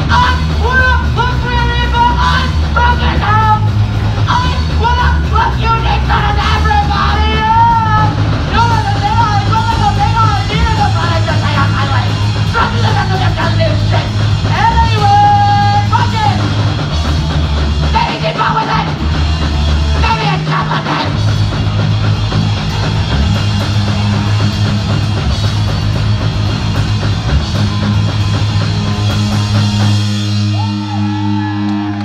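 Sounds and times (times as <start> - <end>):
punk band playing: 0.0 - 32.0.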